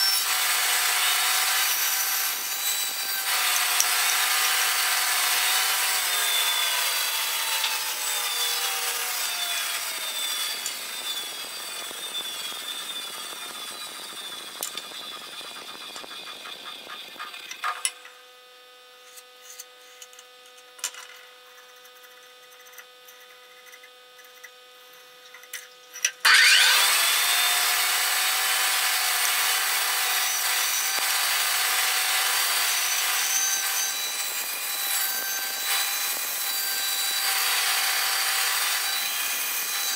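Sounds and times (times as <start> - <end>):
band saw whine: 0.0 - 18.8, 26.2 - 39.9.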